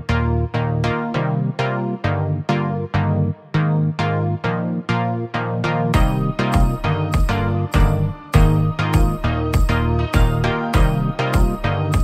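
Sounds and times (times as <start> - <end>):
electronic music with synth chords: 0.0 - 12.0.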